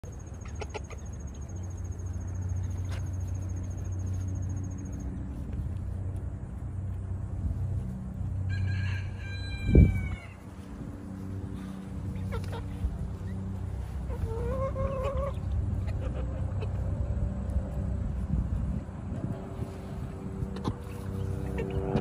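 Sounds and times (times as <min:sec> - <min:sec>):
chickens pecking: 0:00.1 - 0:08.6, 0:10.1 - 0:22.0
low rumble: 0:01.8 - 0:22.0.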